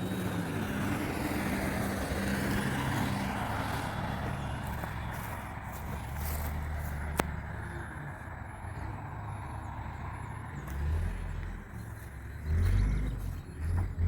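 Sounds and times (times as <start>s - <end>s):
motor vehicle running: 0.0s - 14.0s.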